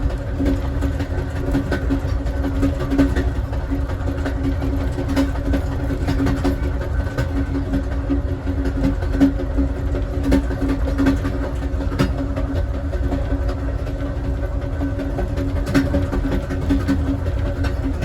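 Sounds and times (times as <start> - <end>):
train car rumbling on track: 0.0 - 18.0.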